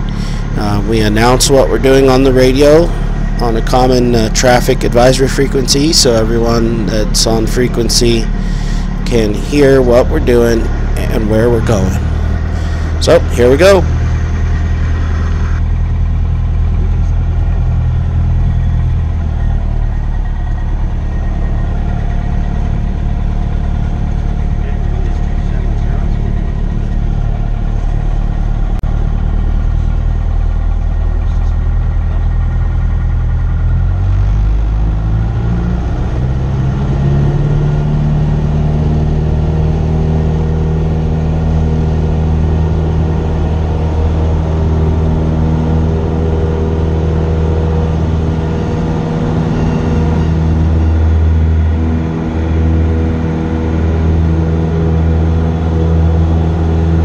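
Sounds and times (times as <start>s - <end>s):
airplane engine and propeller: 0.0s - 57.0s.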